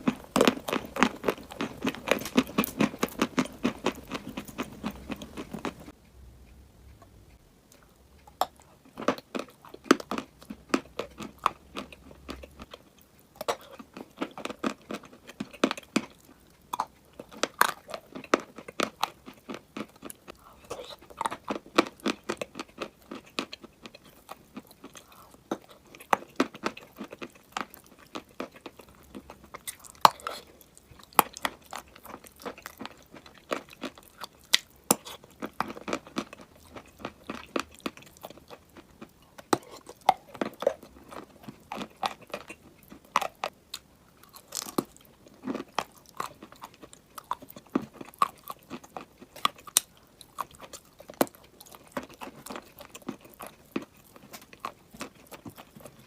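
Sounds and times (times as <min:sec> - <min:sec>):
chewing and crunching chalk: 0:00.0 - 0:06.0, 0:06.9 - 0:56.0.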